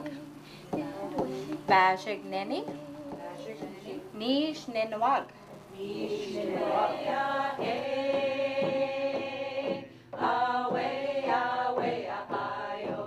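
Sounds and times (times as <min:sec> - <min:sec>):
group of voices singing: 0:00.0 - 0:04.6, 0:05.6 - 0:13.0
hand drums beating: 0:00.7 - 0:04.9, 0:05.9 - 0:13.0.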